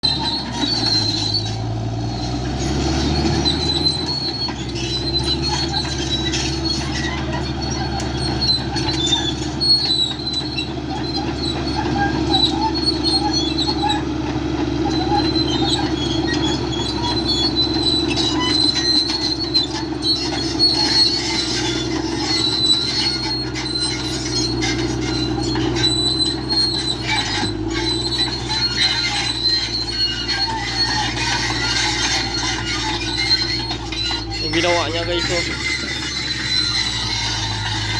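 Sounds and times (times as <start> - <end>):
diesel engine running: 0.0 - 37.9
high-pitched metal squealing: 0.0 - 37.9.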